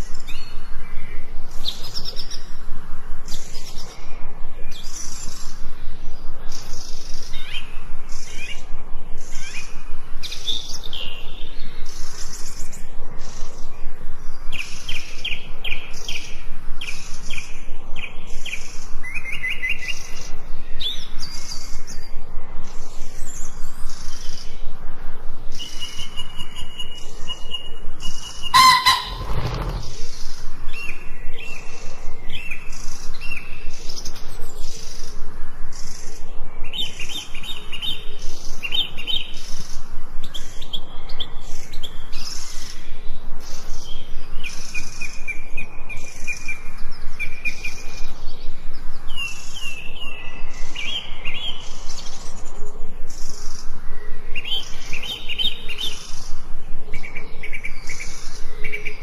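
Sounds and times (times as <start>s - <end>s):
forest birds singing: 0.0s - 59.0s.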